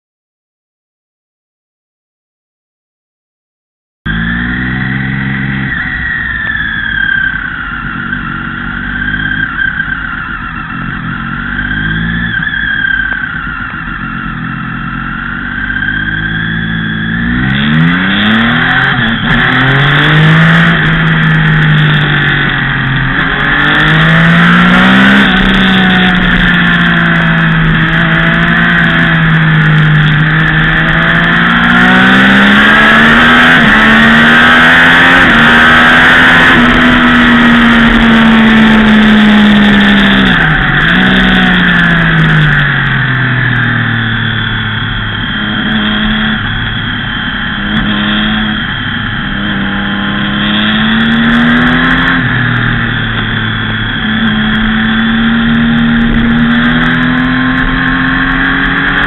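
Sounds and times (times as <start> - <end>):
motorcycle engine revving: 4.1 - 59.0.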